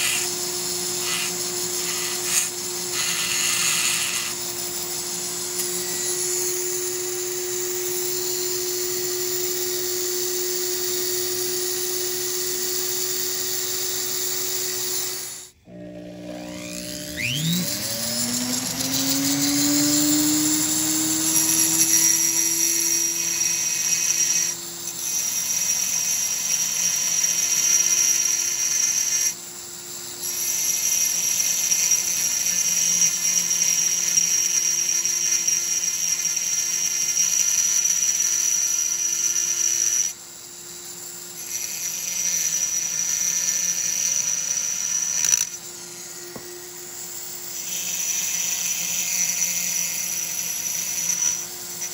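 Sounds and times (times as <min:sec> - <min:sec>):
die grinder whining: 0:00.0 - 0:51.9
grinder burr grinding metal: 0:00.0 - 0:51.9.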